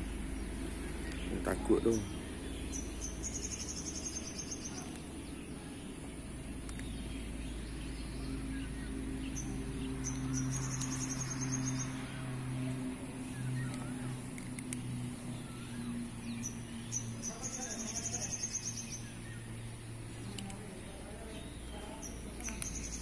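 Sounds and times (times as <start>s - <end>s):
low steady engine hum: 0.0s - 23.0s.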